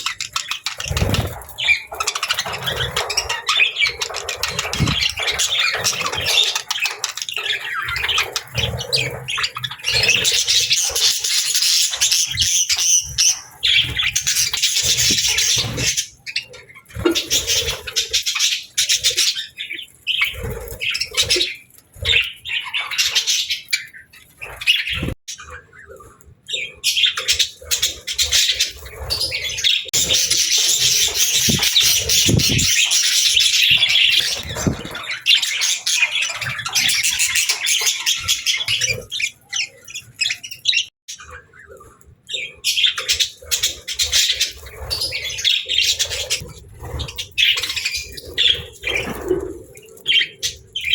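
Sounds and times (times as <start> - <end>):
budgerigars chirping: 0.0 - 25.8, 26.5 - 49.1.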